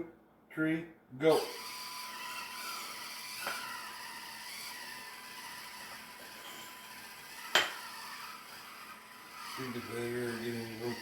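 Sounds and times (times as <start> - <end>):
small electric motors whining: 1.3 - 11.0.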